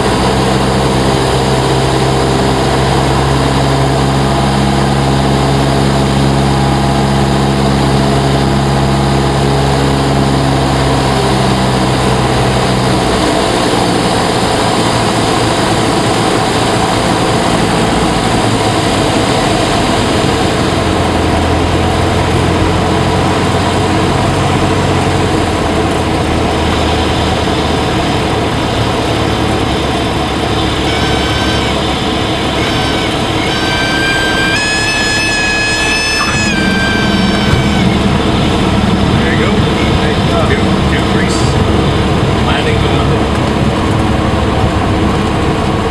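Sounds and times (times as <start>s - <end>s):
propeller plane engine: 0.0s - 45.9s.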